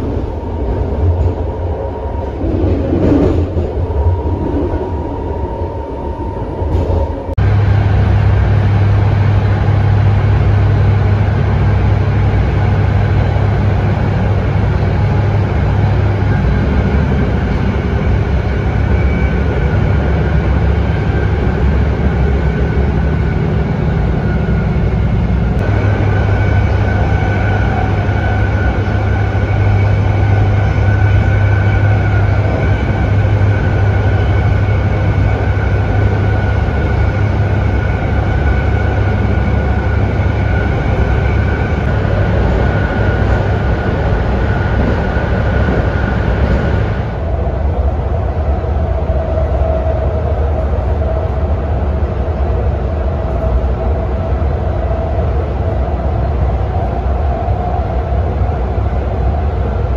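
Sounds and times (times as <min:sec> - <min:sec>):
train wheels rumbling on rail: 0:00.0 - 0:59.9
high steady whine: 0:04.0 - 0:59.9.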